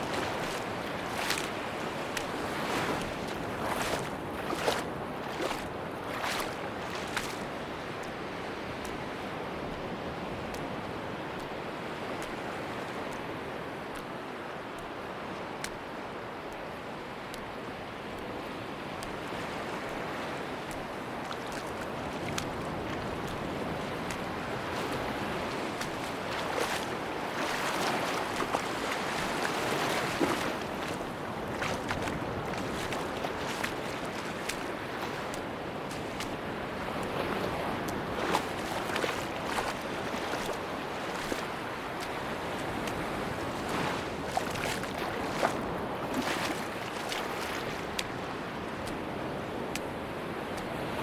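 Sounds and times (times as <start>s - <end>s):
surf washing onto beach: 0.0s - 51.0s.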